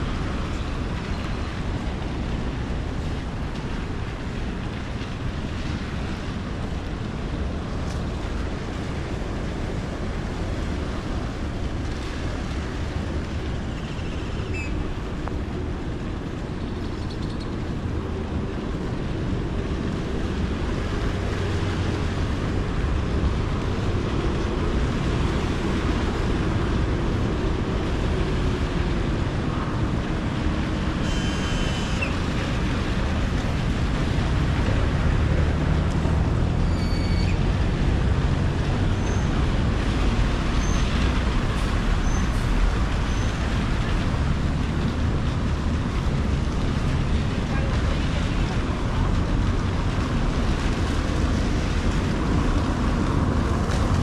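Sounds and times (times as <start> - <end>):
rain rushing: 0.0 - 54.0
road traffic: 0.0 - 54.0.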